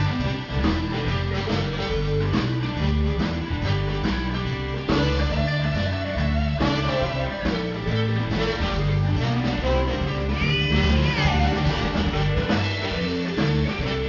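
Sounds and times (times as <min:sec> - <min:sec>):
drum kit beat: 0:00.0 - 0:14.0
electric guitars: 0:00.0 - 0:14.0
low bass line: 0:00.0 - 0:14.0.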